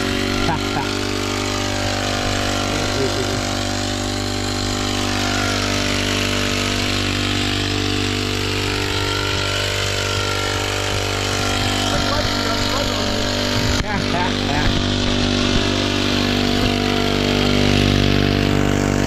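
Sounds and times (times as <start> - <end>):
small sprayer pump engine running: 0.0 - 19.0.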